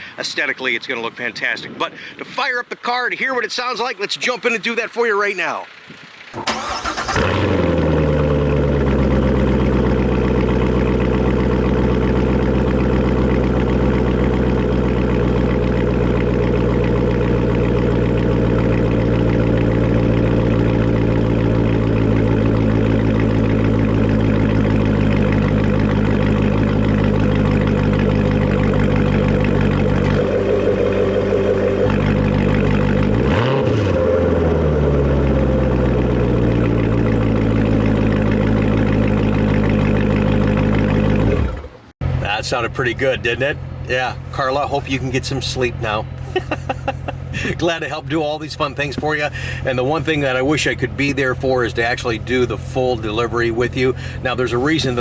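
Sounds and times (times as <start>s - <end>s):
car engine starting and idling: 2.7s - 55.0s.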